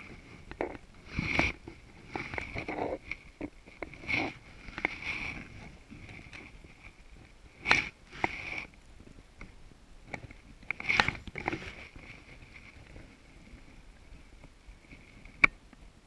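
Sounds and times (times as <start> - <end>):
fishing line rubbing and swishing: 0.0 - 8.8, 10.3 - 15.4.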